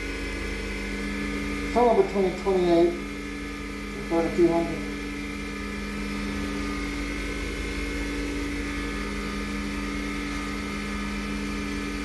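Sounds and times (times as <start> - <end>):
lathe motor humming: 0.0 - 12.0.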